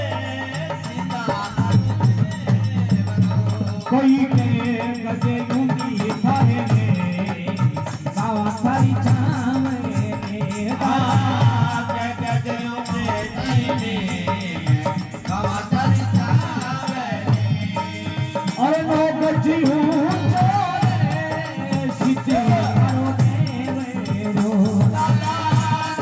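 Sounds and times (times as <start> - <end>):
drums pulsing: 0.0 - 26.0
rattling hand percussion: 0.0 - 26.0.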